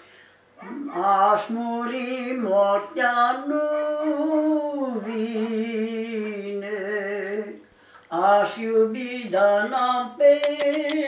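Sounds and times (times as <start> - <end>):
elderly woman singing folk song: 1.0 - 11.0.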